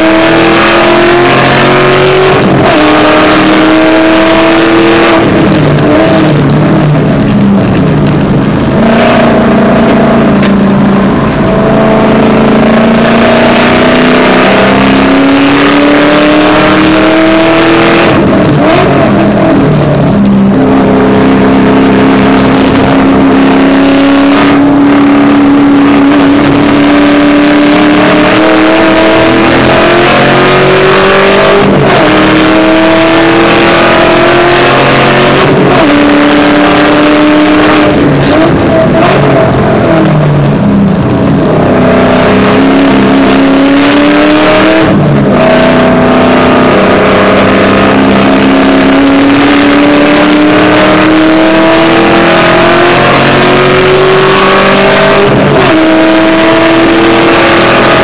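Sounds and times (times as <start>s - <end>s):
car engine accelerating through upshifts: 0.0s - 58.0s.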